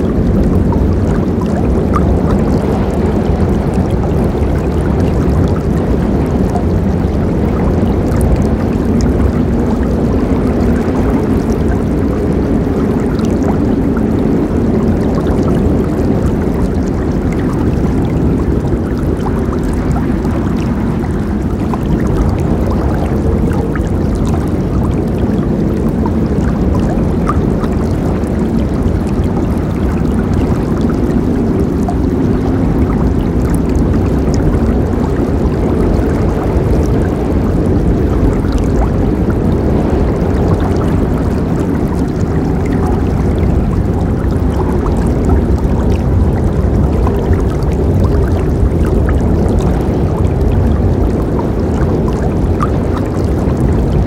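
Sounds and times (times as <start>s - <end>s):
small water splashes: 0.0s - 54.0s.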